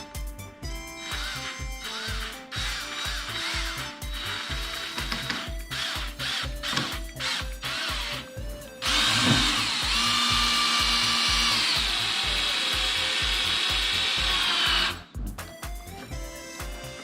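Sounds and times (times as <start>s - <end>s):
background music with steady beat: 0.0s - 17.0s
cordless drill driving screw into wood: 1.0s - 15.0s.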